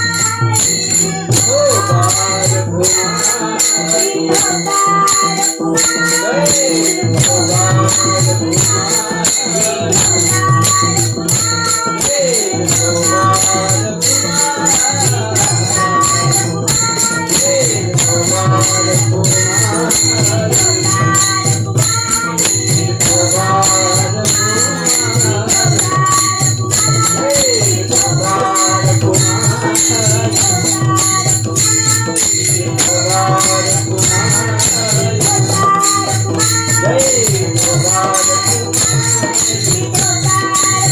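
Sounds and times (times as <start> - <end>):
jingling percussion beat: 0.0 - 40.9.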